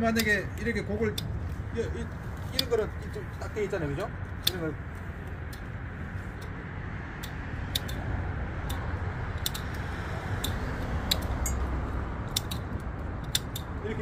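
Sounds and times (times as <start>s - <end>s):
pruning shears snipping: 0.0s - 14.0s
steady low rumble: 0.0s - 14.0s.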